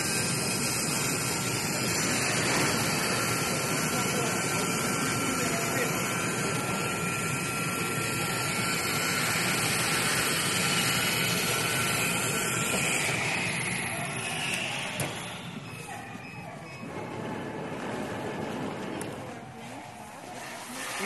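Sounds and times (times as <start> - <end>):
fabric cutting machine rushing: 0.0 - 15.6, 16.8 - 19.7
thin steady whine: 0.0 - 21.0.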